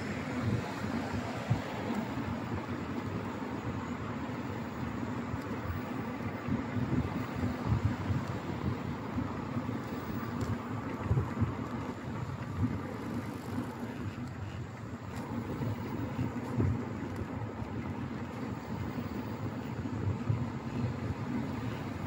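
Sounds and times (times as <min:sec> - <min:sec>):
street traffic: 0:00.0 - 0:22.0
wind rumble on microphone: 0:00.0 - 0:22.0.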